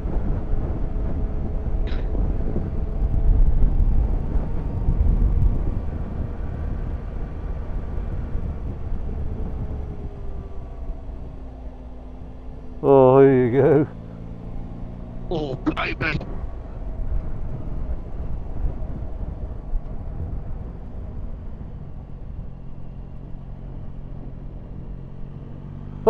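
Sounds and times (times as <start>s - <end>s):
wind rushing on microphone: 0.0s - 15.2s, 16.0s - 23.4s
motorcycle engine hum: 0.0s - 26.0s.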